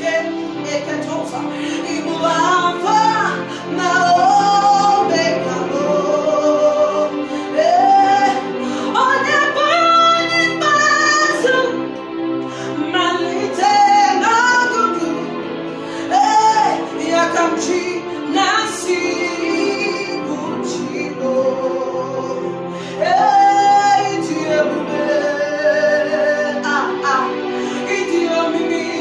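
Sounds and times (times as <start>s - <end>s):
person singing a slow worship song: 0.0s - 29.0s
sustained instrumental accompaniment: 0.0s - 29.0s.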